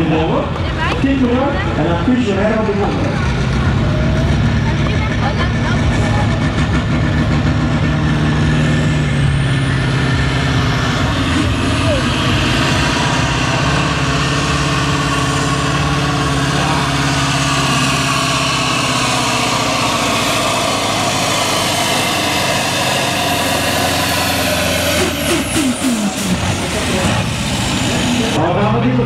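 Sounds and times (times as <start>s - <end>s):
diesel engine running under heavy load: 0.0s - 29.0s.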